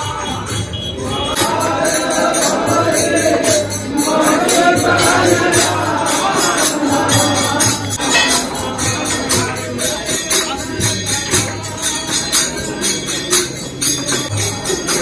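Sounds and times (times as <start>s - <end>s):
person singing devotional song: 0.0s - 13.4s
jingling hand percussion: 0.0s - 15.0s.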